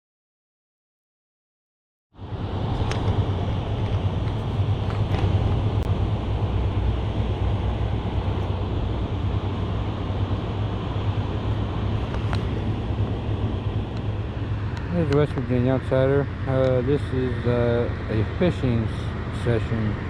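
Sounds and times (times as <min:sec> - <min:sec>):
low outdoor rumbling: 0:02.2 - 0:20.0.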